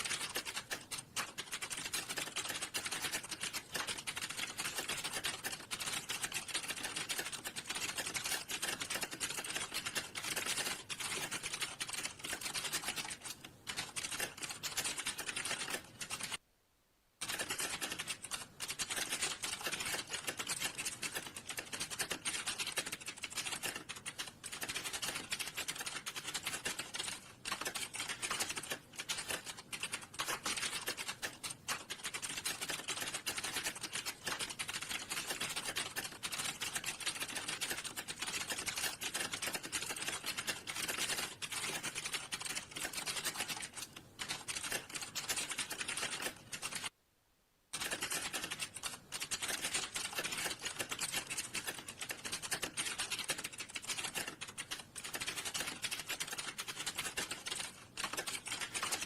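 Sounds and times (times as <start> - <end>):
rapid keyboard typing: 0.0 - 16.4, 17.2 - 47.0, 47.7 - 59.0.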